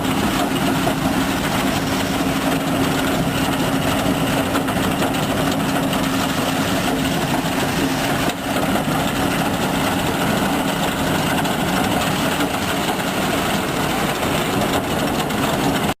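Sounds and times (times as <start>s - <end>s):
tub grinder mechanical drone: 0.0s - 15.9s.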